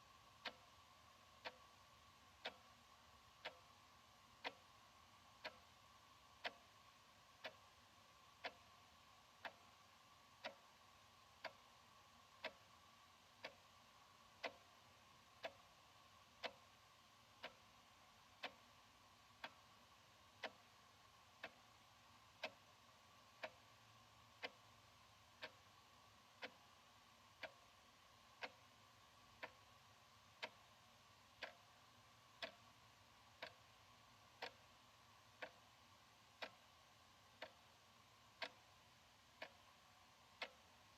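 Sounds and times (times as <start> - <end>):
wall clock ticking: 0.0 - 40.9.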